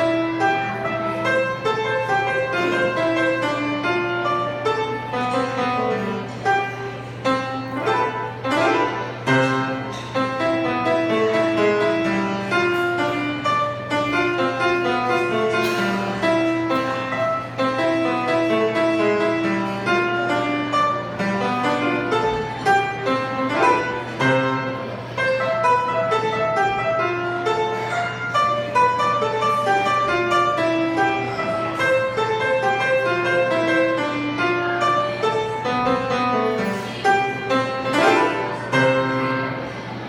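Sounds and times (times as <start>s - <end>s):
piano playing quick notes: 0.0s - 40.0s.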